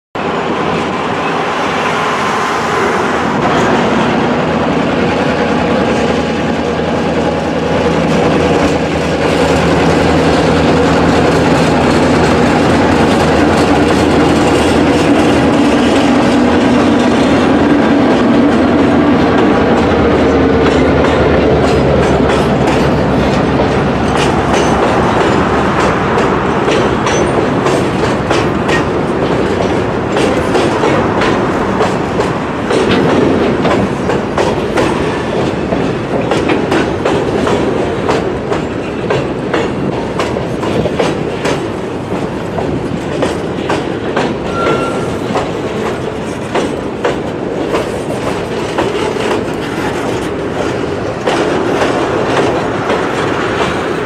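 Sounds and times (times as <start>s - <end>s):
diesel locomotive engine: 0.2s - 54.0s
train wheels clickety-clack: 0.5s - 54.0s.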